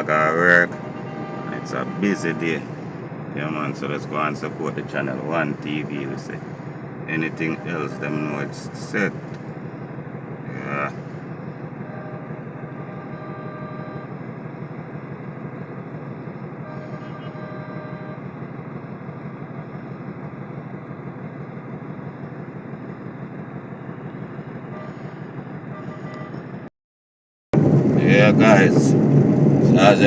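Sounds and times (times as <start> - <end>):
faint steady tone: 0.0 - 26.4
car engine and road noise: 0.0 - 26.7, 27.6 - 30.0.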